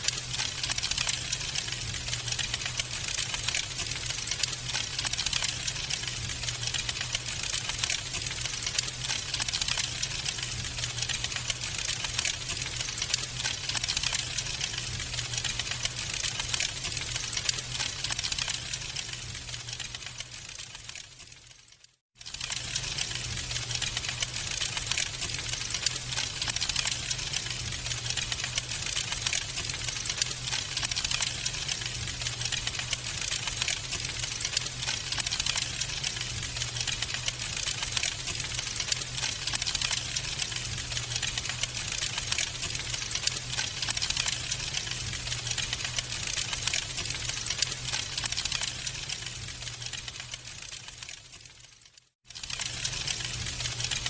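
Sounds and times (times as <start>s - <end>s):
wood fire crackling: 0.0s - 21.5s, 22.2s - 54.0s.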